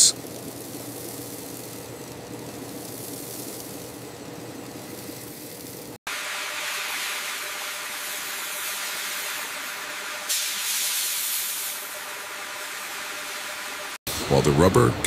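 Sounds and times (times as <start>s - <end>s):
hissing machine noise: 0.0s - 15.0s
industrial machinery hum: 0.0s - 15.0s.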